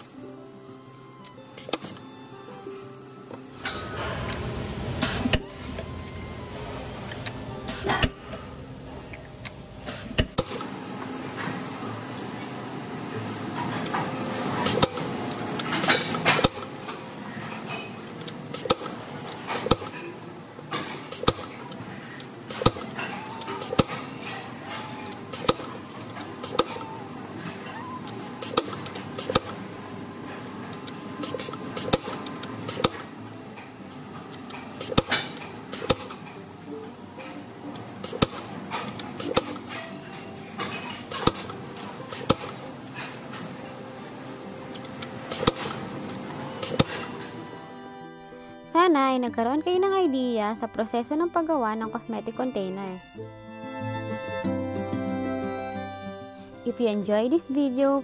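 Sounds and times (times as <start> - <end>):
factory machinery humming: 1.1 - 48.5.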